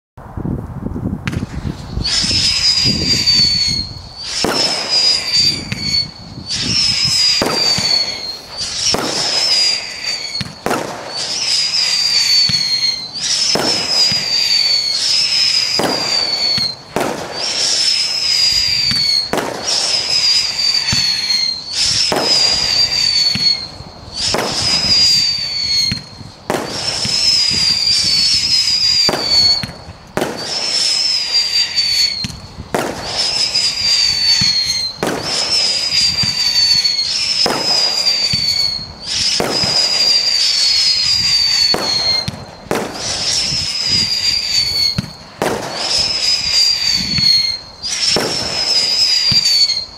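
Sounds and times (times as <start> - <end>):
firework shots launching: 1.2 - 49.9
firework whistle: 1.2 - 49.9.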